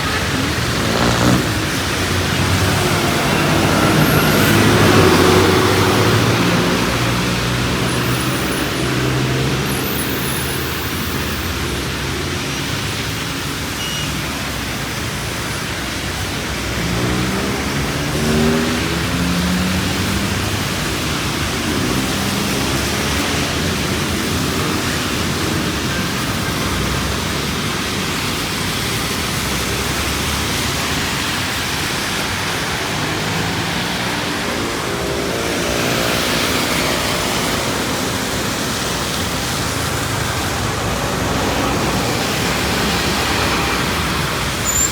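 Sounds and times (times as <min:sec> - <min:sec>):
passing vehicle engine drone: 0:00.0 - 0:10.8, 0:16.3 - 0:27.6, 0:28.2 - 0:44.6
rain hissing: 0:00.0 - 0:44.9
road traffic: 0:00.0 - 0:44.9.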